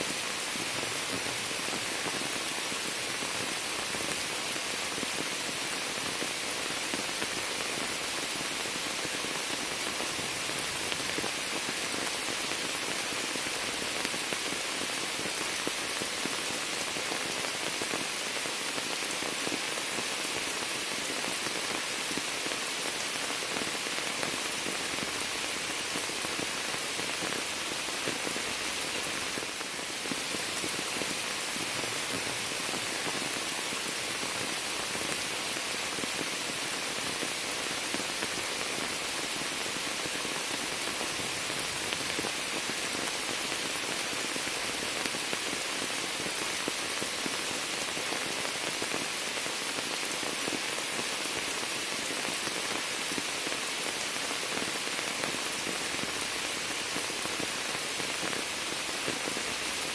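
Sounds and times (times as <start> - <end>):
rain splashing on water and leaves: 0.0 - 59.9.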